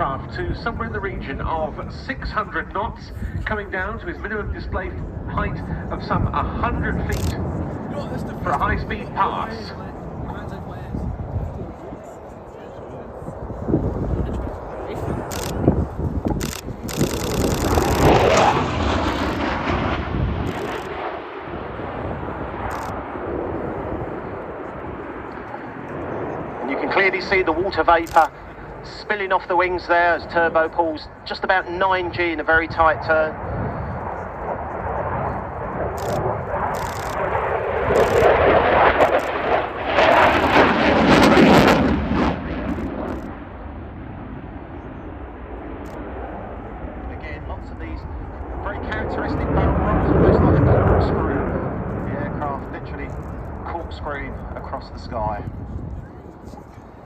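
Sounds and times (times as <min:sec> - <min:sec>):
jet fighter roaring past: 0:00.0 - 0:57.0.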